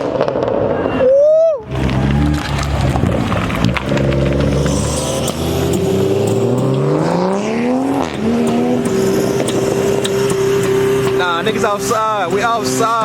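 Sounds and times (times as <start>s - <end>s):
car engine revving: 1.6s - 13.0s.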